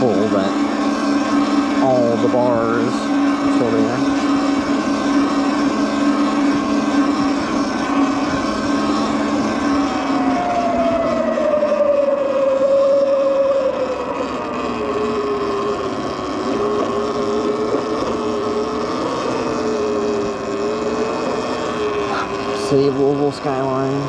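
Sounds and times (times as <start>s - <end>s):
electric bike motor whining: 0.0s - 24.0s.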